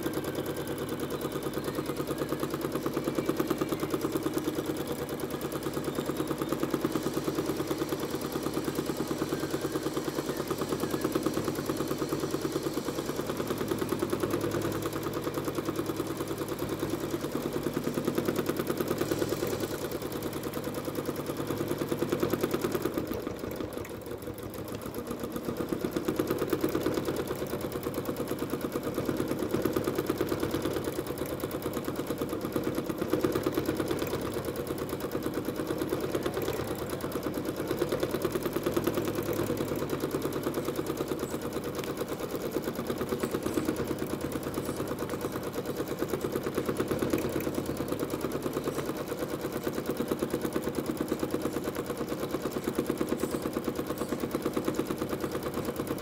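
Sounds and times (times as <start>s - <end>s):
sewing machine stitching: 0.0s - 56.0s.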